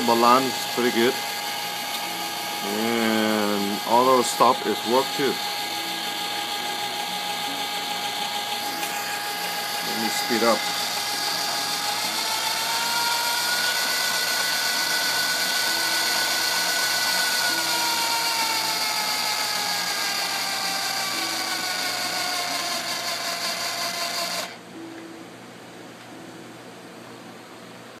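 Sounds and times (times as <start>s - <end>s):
electric motor whining: 0.0s - 24.6s.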